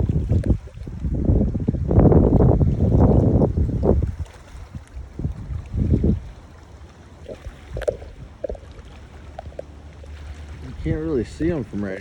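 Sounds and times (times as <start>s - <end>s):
river water lapping: 0.0s - 12.0s
wind buffeting microphone: 0.0s - 12.0s.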